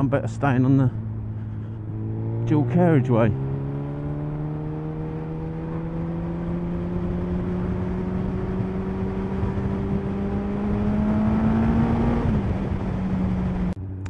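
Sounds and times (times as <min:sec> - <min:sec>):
motorcycle engine accelerating: 0:00.0 - 0:14.0
wind and road noise: 0:00.0 - 0:14.0.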